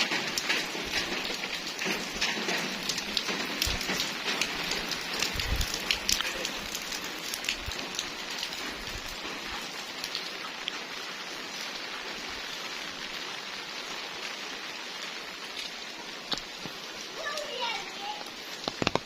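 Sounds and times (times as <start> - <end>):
heavy rain hissing: 0.0 - 19.0
raindrop taps: 0.0 - 19.0.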